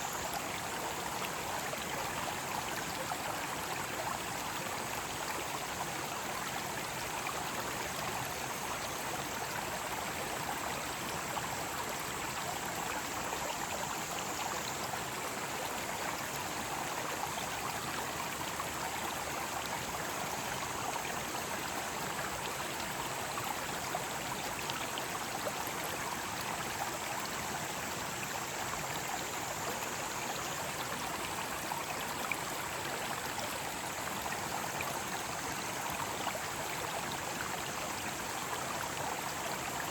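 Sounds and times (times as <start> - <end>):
mountain stream flowing: 0.0 - 39.9.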